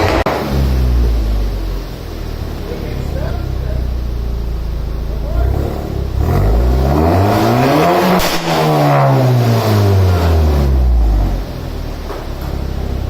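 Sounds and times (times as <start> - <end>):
car exhaust revving: 0.0 - 13.0
exhaust crack: 0.0 - 13.0.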